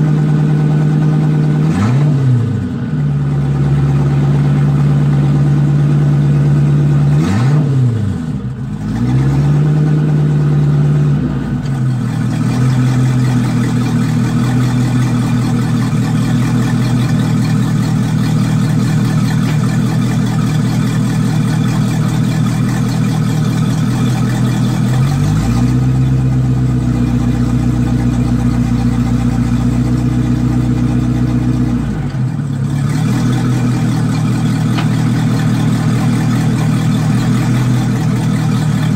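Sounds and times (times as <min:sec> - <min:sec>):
boat engine revving and idling: 0:00.0 - 0:38.9.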